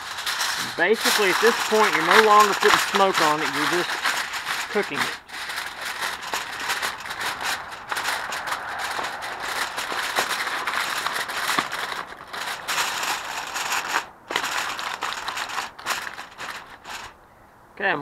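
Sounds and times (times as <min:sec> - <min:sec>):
aluminum foil crinkling: 0:00.0 - 0:17.2.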